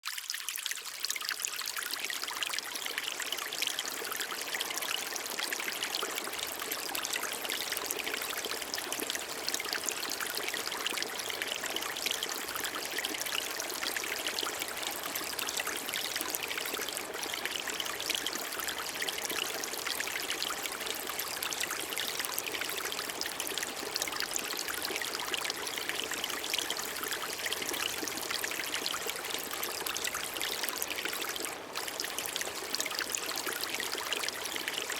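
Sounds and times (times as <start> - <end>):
water trickling and splashing: 0.0 - 34.9.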